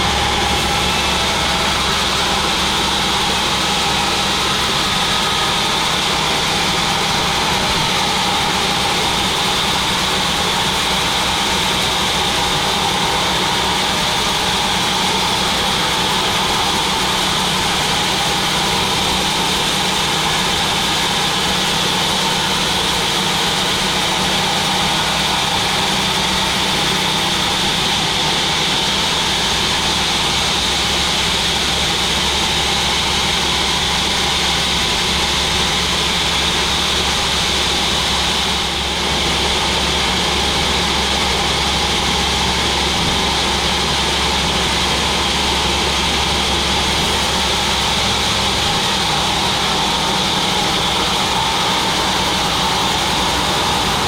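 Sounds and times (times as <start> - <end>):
high mechanical whine: 0.0 - 54.0
sawmill machine running: 0.0 - 54.0.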